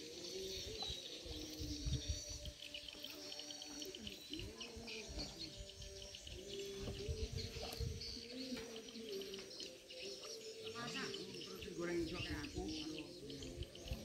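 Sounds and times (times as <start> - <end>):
birds chirping: 0.0 - 14.0
birds cooing: 0.0 - 14.0.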